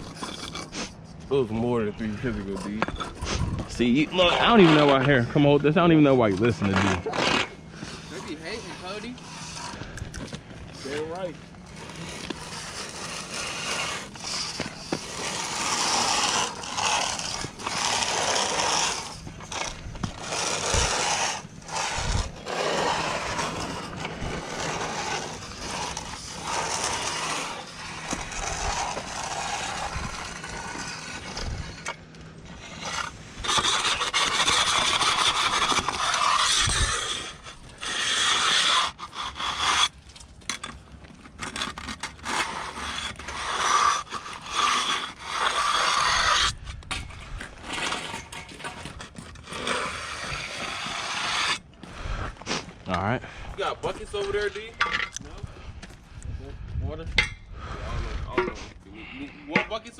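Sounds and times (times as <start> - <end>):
trowel scraping wet concrete: 0.0 - 55.4.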